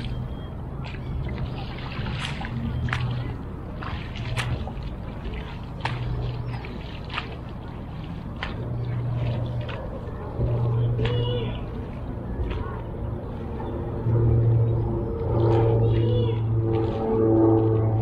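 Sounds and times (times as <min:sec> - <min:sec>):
background wash noise: 0:00.0 - 0:18.0
low hum: 0:00.0 - 0:18.0
oars splashing in water: 0:00.0 - 0:18.0.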